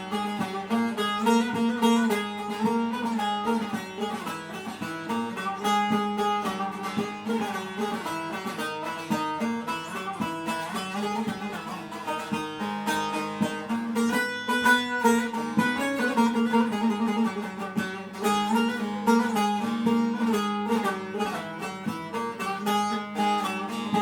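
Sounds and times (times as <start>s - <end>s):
plucked string instrument melody: 0.0s - 24.0s.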